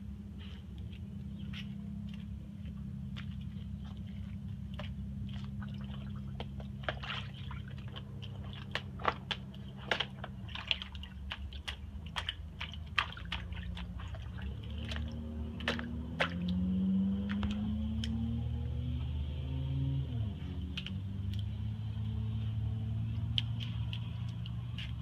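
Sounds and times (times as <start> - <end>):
steady low hum: 0.0 - 25.0
puppy splashing in water: 1.3 - 25.0.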